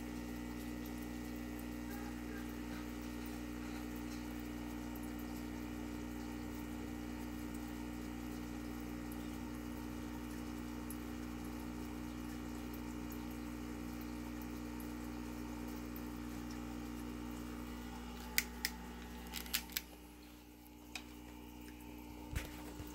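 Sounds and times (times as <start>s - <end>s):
aquarium pump humming: 0.0s - 22.9s.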